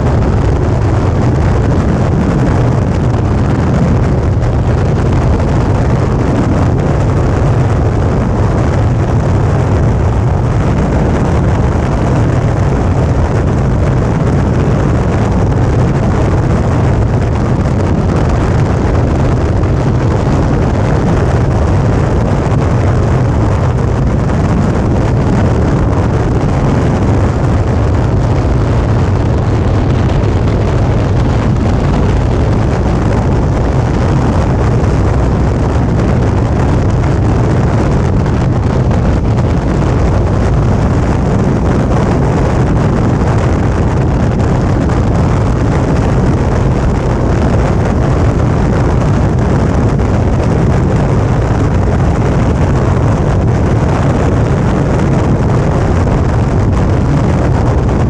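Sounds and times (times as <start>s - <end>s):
wind over microphone: 0.0s - 58.0s.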